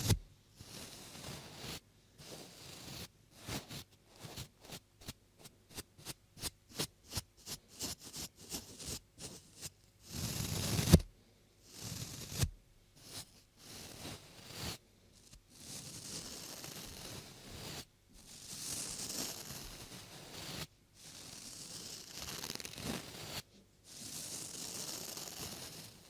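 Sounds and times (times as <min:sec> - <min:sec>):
scratchy rubbing on microphone: 0:00.0 - 0:11.1, 0:11.8 - 0:26.0.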